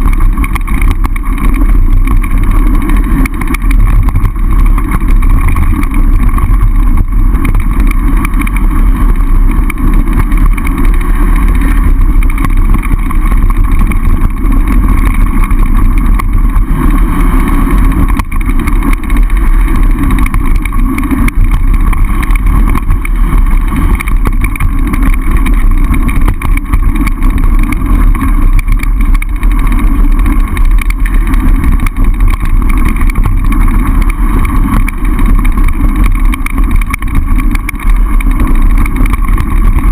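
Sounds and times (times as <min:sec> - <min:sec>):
bike tyres rolling on dirt: 0:00.0 - 0:39.9.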